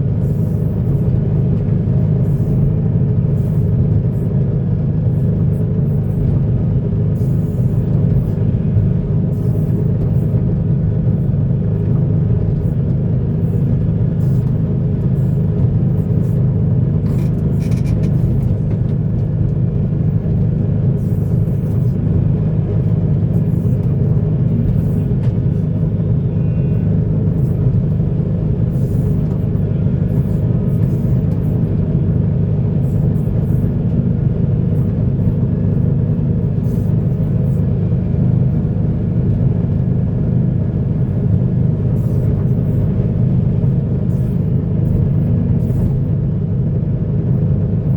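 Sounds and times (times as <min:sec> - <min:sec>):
diesel machinery engine rumble: 0:00.0 - 0:47.9.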